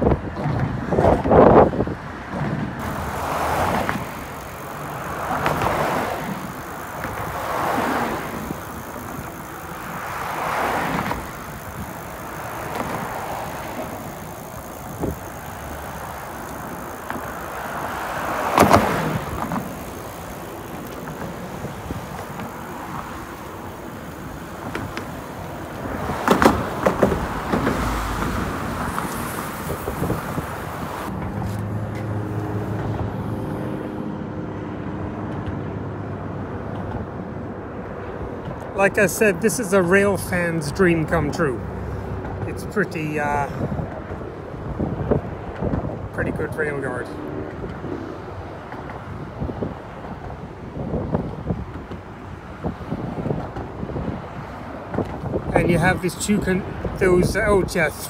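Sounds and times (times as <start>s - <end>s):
cars passing on a road: 0.0s - 58.0s.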